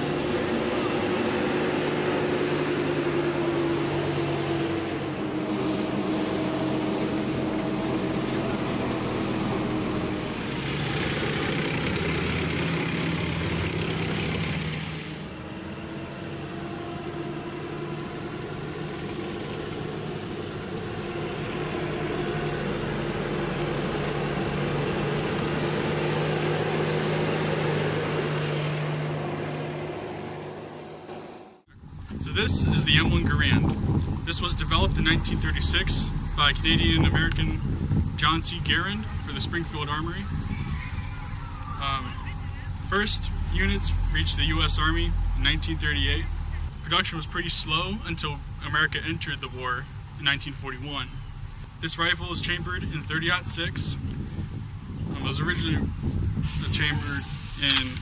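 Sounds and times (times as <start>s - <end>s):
tyres on wet road: 0.0s - 58.0s
vehicle engines driving past: 0.0s - 58.0s.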